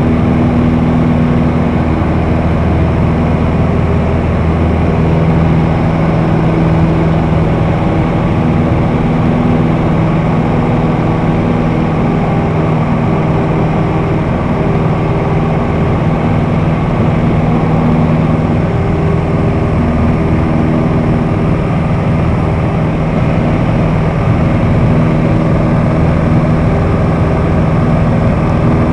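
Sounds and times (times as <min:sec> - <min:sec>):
propeller aircraft engine drone: 0:00.0 - 0:28.9.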